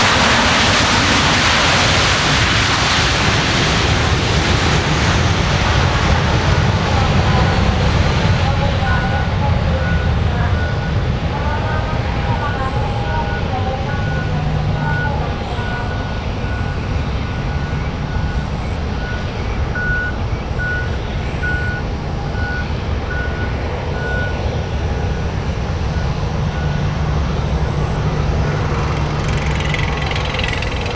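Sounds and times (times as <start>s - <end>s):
jet engines low rumble: 0.0s - 30.9s.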